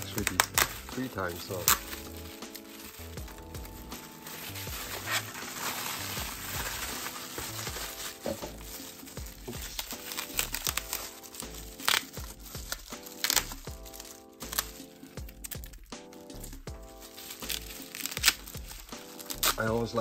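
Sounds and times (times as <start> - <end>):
bubble wrap crinkling and crackling: 0.0 - 20.0.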